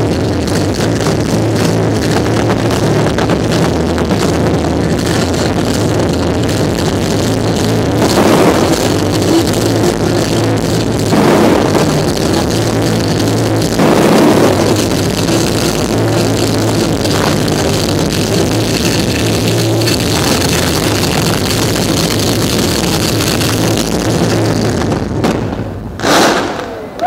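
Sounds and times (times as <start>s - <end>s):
fireworks bangs and crackle: 0.0s - 27.0s.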